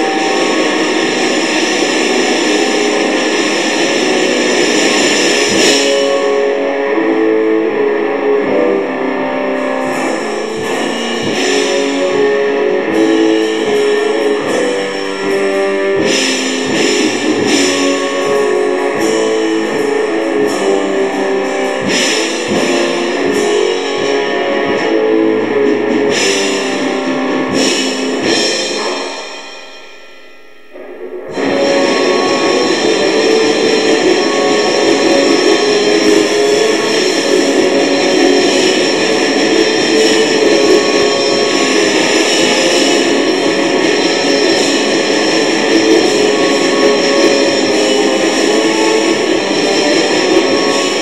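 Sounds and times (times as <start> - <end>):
distorted electric guitar riffing: 0.0 - 51.0
drum kit: 0.0 - 51.0.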